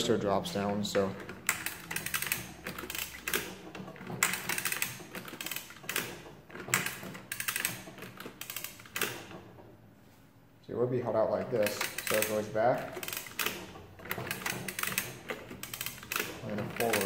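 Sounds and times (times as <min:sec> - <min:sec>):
adding machine mechanism clattering: 0:00.0 - 0:09.8, 0:11.1 - 0:17.0
rapid metallic clicking: 0:00.6 - 0:09.4, 0:11.4 - 0:17.0.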